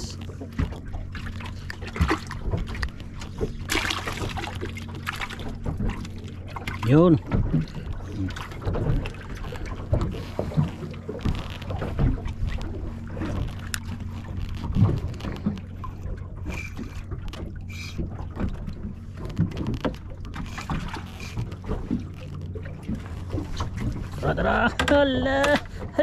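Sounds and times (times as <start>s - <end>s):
low hum: 0.0s - 26.0s
water lapping against hull: 0.0s - 26.0s
wind: 0.0s - 26.0s.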